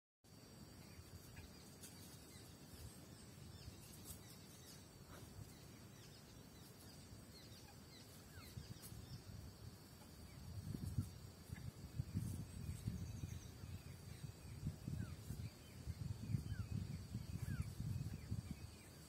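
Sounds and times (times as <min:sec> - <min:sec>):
faint bird chirps: 0:00.3 - 0:19.0.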